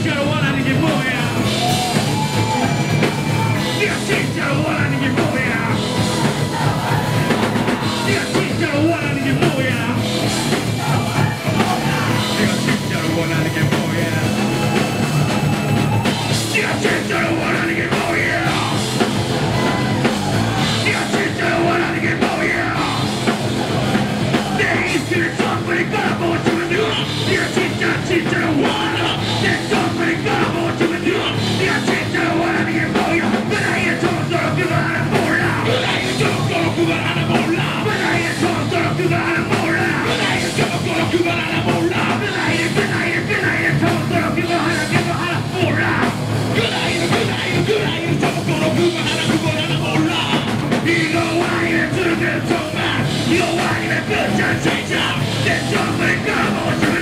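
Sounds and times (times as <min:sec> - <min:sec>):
person singing: 0:00.0 - 0:15.1, 0:16.0 - 0:57.0
bass guitar: 0:00.0 - 0:57.0
drum kit: 0:00.0 - 0:57.0
electric guitar: 0:00.0 - 0:57.0.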